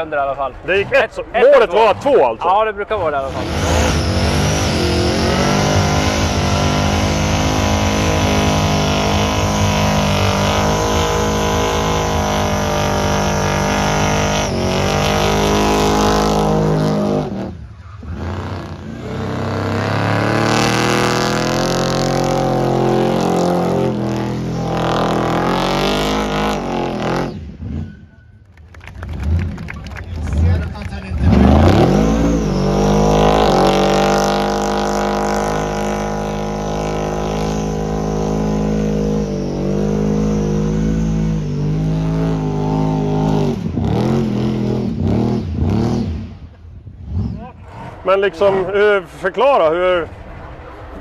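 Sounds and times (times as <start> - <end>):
supercharged engine revving: 3.0 - 28.0, 29.0 - 48.9.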